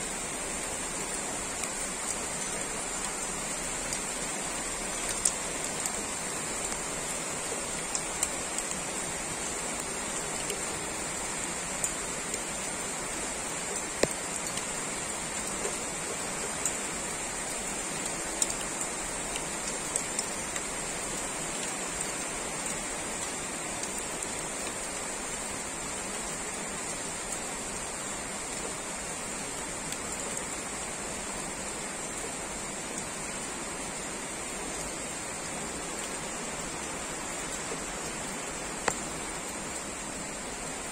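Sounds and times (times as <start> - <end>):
heavy rain on trees: 0.0 - 40.9.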